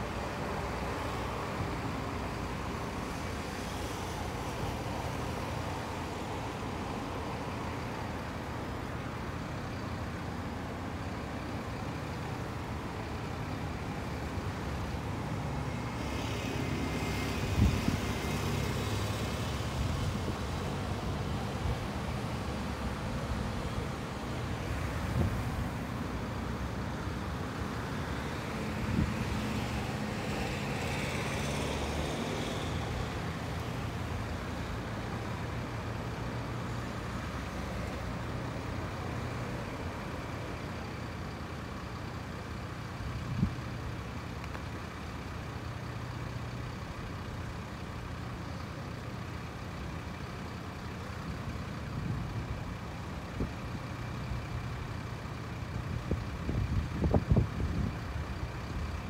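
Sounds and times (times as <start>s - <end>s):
traffic engines humming: 0.0s - 59.0s.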